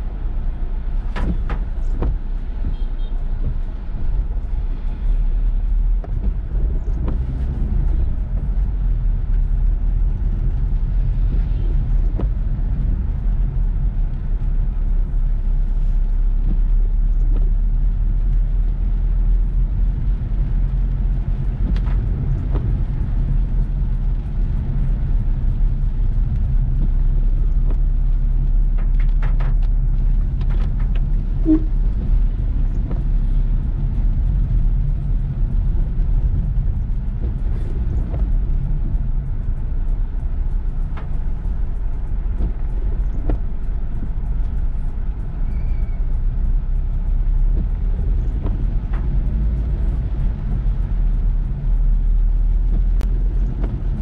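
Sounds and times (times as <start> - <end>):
car engine and road rumble: 0.0 - 54.0
rain taps and clicks: 0.0 - 54.0.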